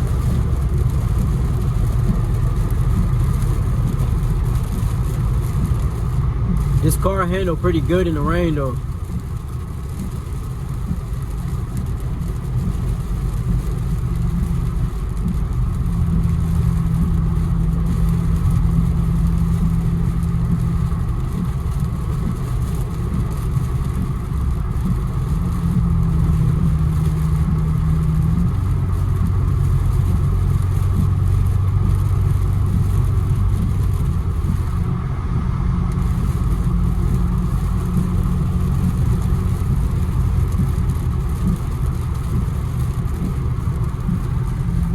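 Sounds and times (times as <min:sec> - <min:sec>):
car engine drone: 0:00.0 - 0:44.9
tyres hissing on wet road: 0:00.0 - 0:44.9.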